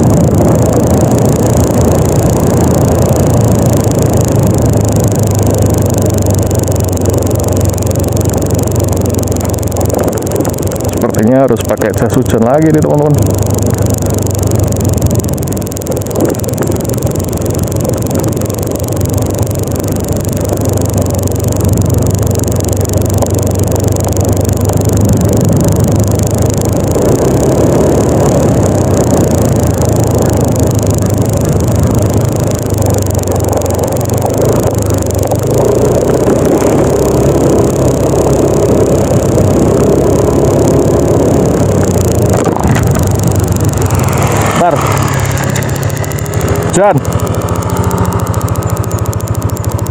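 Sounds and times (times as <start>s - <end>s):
road and wind noise: 0.0s - 49.9s
scooter engine running: 0.0s - 49.9s.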